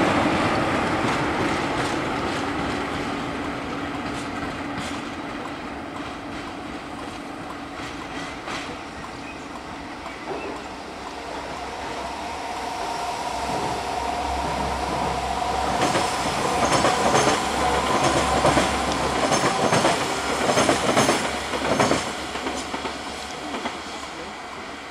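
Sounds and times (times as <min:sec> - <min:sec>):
train wheels clicking over rail joints: 0:00.7 - 0:11.6, 0:14.4 - 0:24.2.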